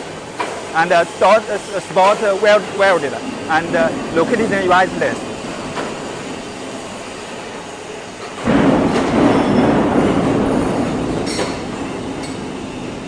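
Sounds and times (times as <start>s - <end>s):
factory noise: 0.0s - 13.0s
heavy machinery rumbling: 0.0s - 13.0s.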